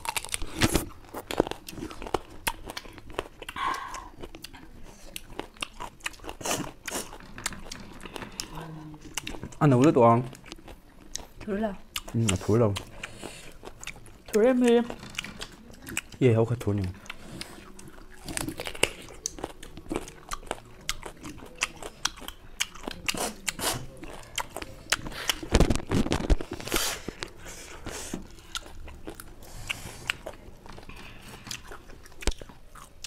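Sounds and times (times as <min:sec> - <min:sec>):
people chewing lemon wedges: 0:00.0 - 0:33.0.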